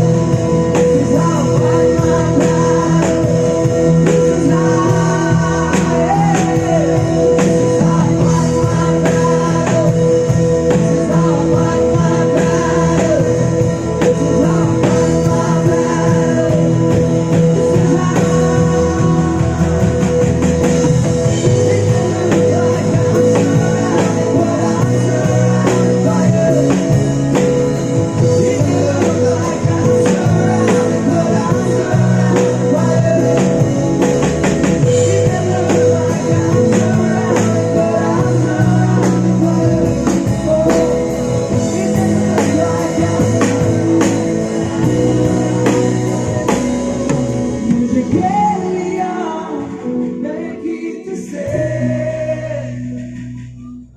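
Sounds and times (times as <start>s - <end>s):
steady drum beat: 0.0s - 48.6s
bass guitar: 0.0s - 53.9s
electric guitar: 0.0s - 53.9s.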